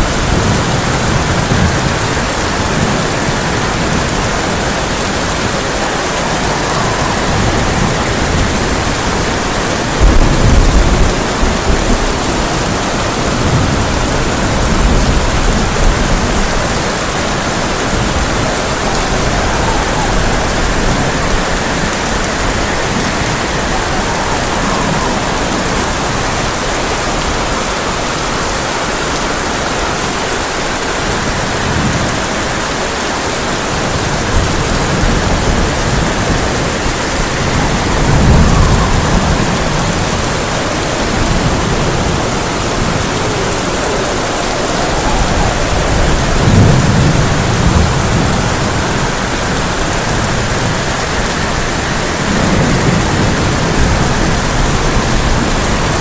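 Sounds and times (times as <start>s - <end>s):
heavy rain on a tin roof: 0.0s - 56.0s
low thunder rolls: 0.0s - 56.0s.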